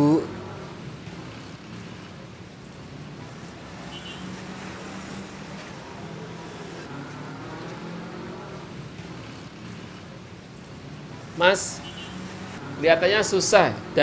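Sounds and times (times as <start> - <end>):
engine passing: 0.0 - 14.0
street traffic hum: 0.0 - 14.0.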